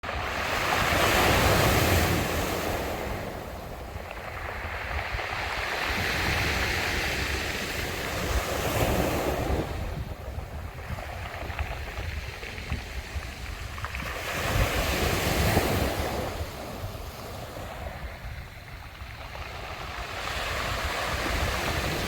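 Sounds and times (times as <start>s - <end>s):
sea waves washing onto beach: 0.0s - 22.0s
wind rumble on microphone: 0.0s - 22.0s.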